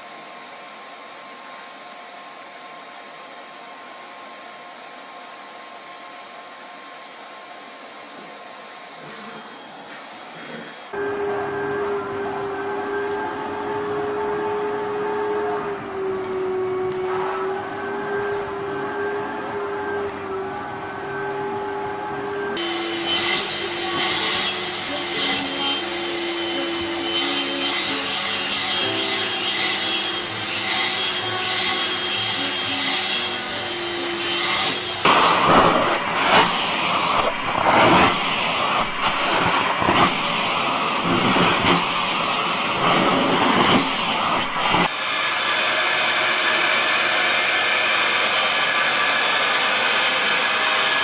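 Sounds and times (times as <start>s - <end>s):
vacuum cleaner motor whine: 0.0s - 51.0s.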